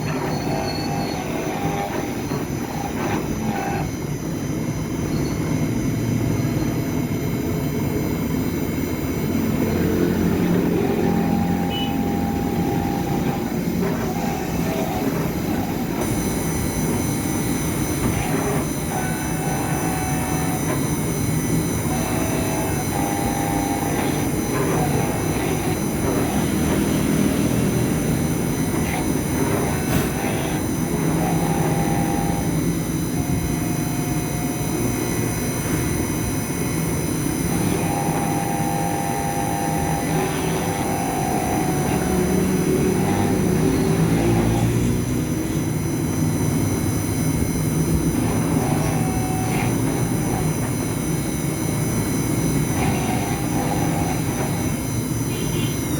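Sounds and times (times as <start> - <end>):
engraving machine running: 0.0 - 55.9
high whining tones: 0.0 - 55.9.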